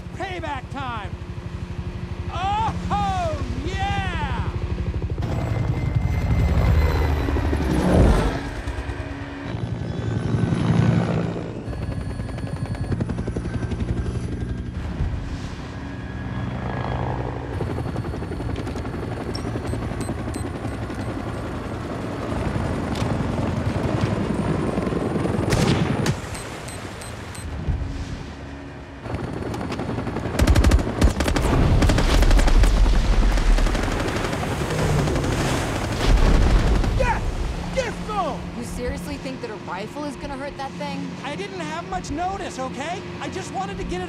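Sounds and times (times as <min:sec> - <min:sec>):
helicopter rotor beating: 0:00.0 - 0:44.0.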